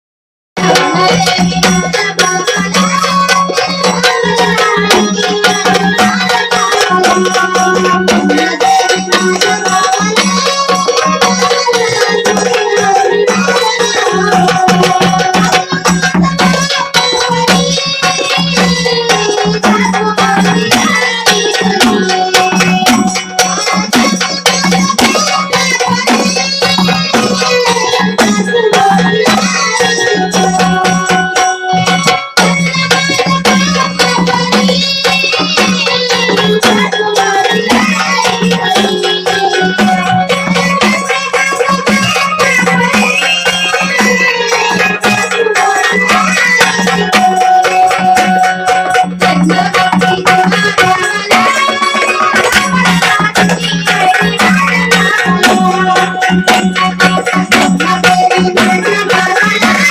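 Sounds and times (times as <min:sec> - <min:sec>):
hand drums beating: 0:00.6 - 0:59.9.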